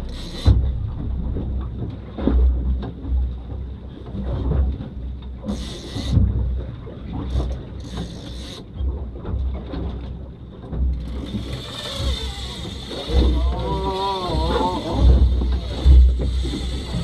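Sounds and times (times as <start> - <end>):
water washing against hull: 0.0 - 17.0.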